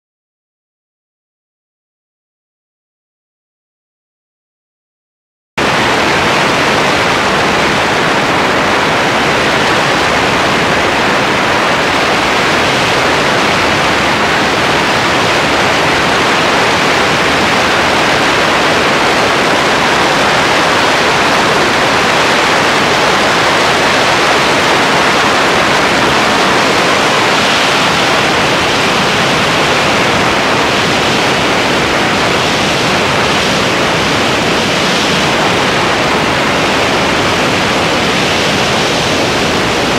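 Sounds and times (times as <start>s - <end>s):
wind rushing over microphone: 5.6s - 39.9s.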